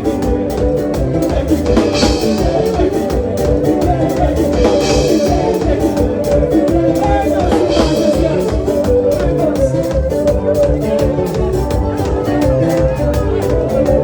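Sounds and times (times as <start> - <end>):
drums and percussion beat: 0.0 - 14.0
live dance band playing: 0.0 - 14.0
person singing: 0.0 - 14.0.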